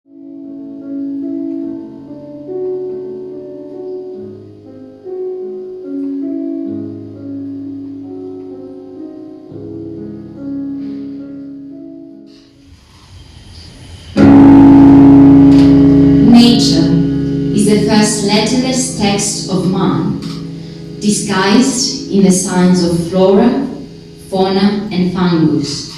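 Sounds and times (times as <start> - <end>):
slow piano chords: 0.0 - 25.9.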